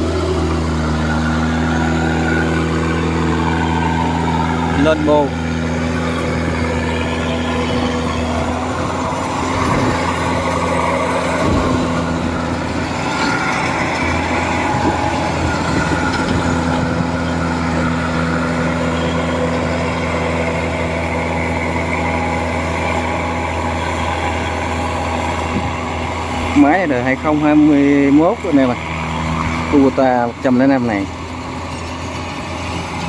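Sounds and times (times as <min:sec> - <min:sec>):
diesel engine drone: 0:00.0 - 0:33.0
threshing machinery noise: 0:00.0 - 0:33.0.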